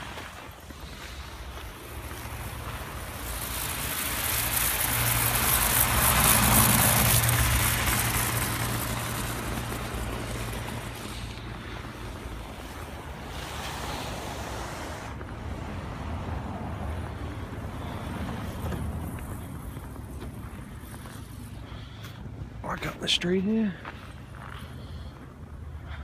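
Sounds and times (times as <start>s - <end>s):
passing vehicle: 0.0s - 26.0s
low engine hum: 0.1s - 26.0s.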